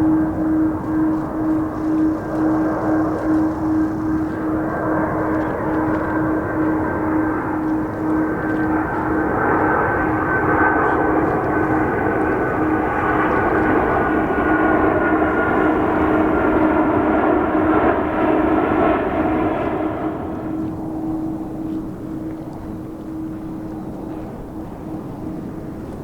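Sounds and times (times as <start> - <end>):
jet airliner passing: 0.0 - 26.0.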